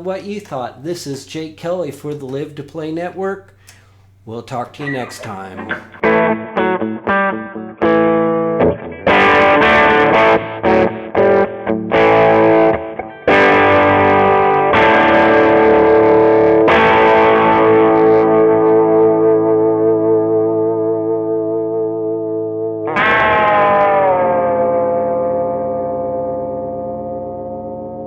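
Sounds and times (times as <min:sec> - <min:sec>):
overdriven electric guitar chords: 0:05.0 - 0:28.0.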